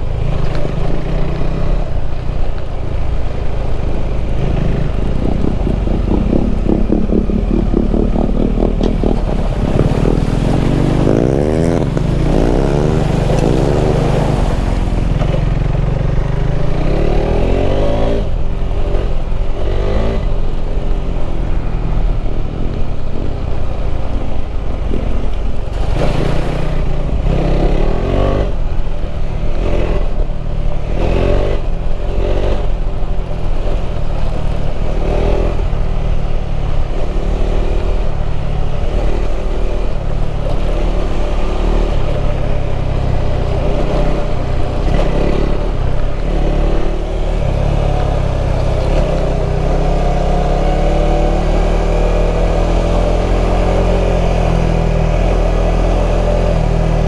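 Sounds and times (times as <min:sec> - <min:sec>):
motorcycle engine revving: 0:03.9 - 0:21.2, 0:24.9 - 0:57.0.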